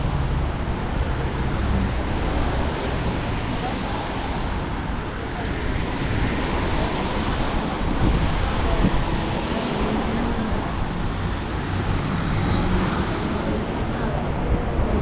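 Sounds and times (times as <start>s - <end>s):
street traffic: 0.0s - 15.0s
wind on microphone: 0.0s - 15.0s.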